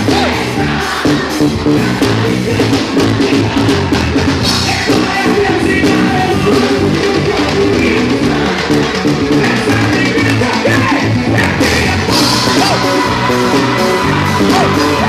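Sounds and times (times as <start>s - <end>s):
drum kit beat: 0.0s - 15.0s
keyboards: 0.0s - 15.0s
live band playing praise music: 0.0s - 15.0s
person singing: 0.0s - 15.0s.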